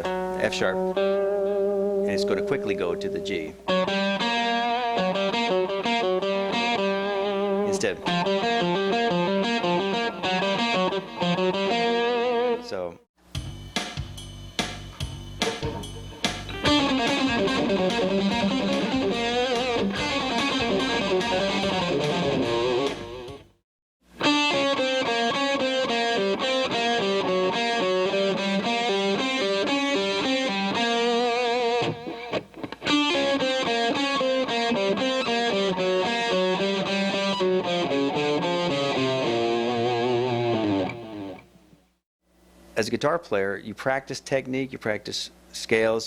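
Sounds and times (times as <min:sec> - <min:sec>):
distorted electric guitar: 0:00.0 - 0:12.8, 0:15.2 - 0:41.6.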